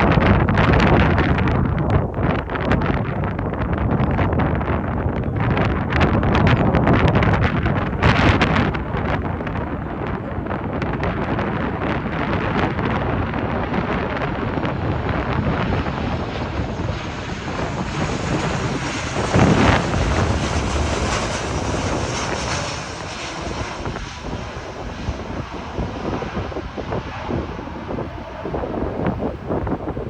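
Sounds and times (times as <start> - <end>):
jet airliner flying over: 0.0 - 30.0
wind buffeting microphone: 0.0 - 30.0.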